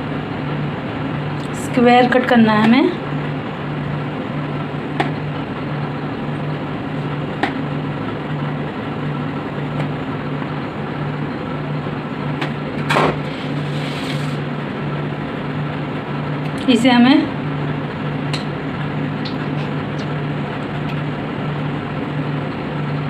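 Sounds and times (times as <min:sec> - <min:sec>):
mechanical hum with low throb: 0:00.0 - 0:23.0.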